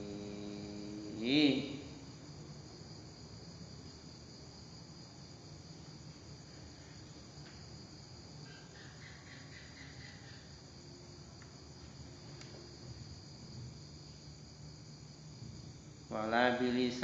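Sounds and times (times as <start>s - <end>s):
insects trilling: 0.0s - 17.0s
low background hum: 0.0s - 17.0s.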